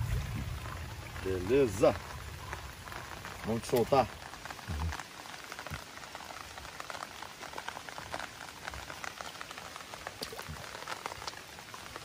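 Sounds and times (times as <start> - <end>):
rain falling on river water: 0.0 - 12.0.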